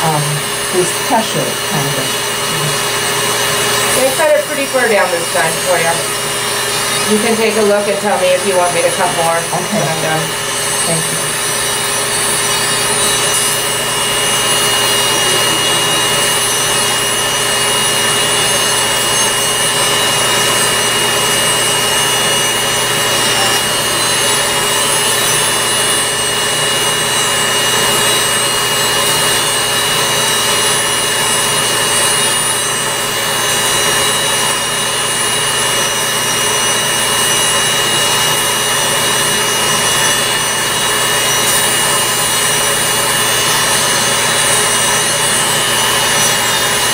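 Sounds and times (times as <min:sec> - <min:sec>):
nail drill whining: 0:00.0 - 0:46.9.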